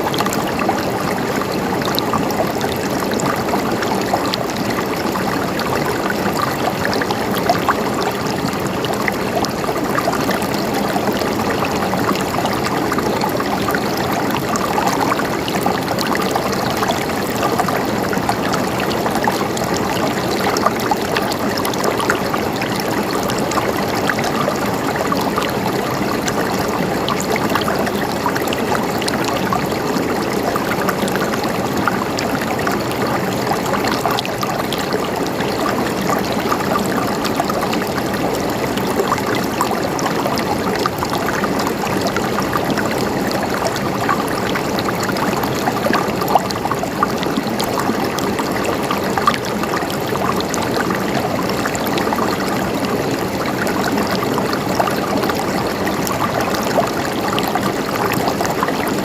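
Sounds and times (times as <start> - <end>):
river water flowing and splashing: 0.0 - 59.0.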